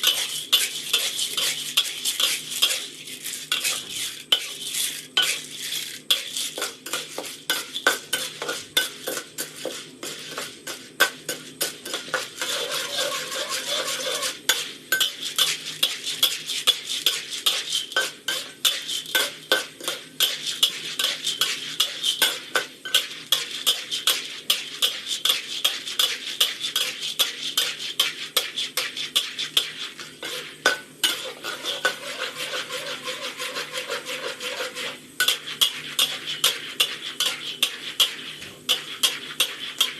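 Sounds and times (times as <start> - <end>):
light sizzle: 0.0 - 39.9
popcorn popping: 0.0 - 39.9.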